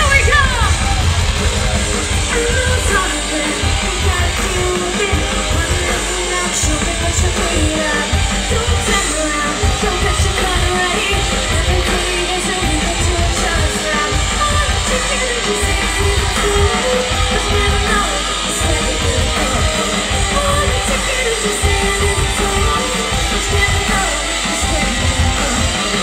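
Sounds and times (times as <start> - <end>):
electric guitar: 0.0 - 26.0
heavy pounding drum beat: 0.0 - 26.0
person singing: 0.0 - 26.0.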